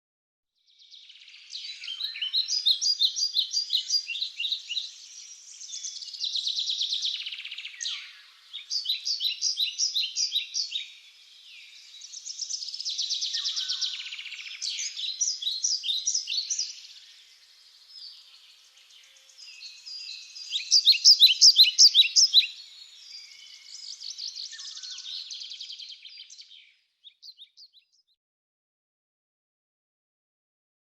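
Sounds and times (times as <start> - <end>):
songbird chirping and trilling: 0.7 - 28.2.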